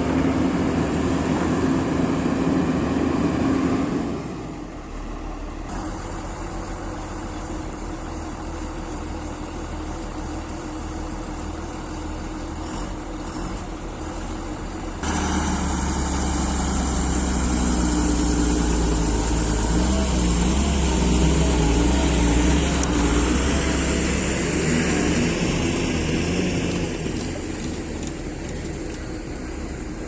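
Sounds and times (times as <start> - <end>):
heavy diesel engines running: 0.0 - 30.0.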